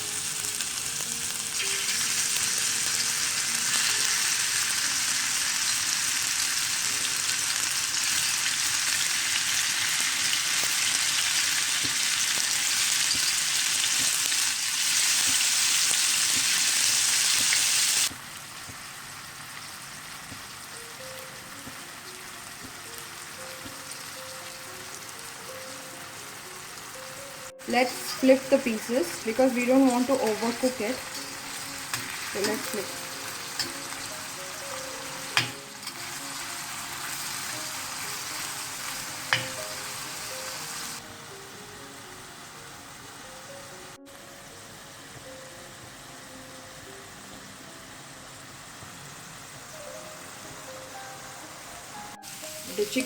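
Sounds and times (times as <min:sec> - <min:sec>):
chicken sizzling in hot oil: 0:00.0 - 0:53.0.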